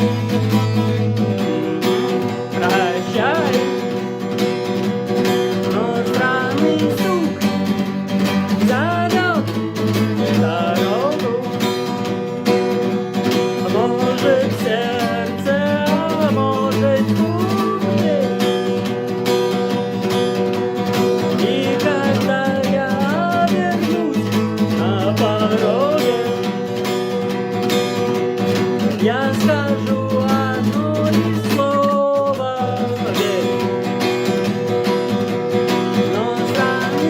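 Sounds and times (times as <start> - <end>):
acoustic guitar strumming: 0.0 - 37.0
guitar melody gliding in pitch: 0.0 - 37.0.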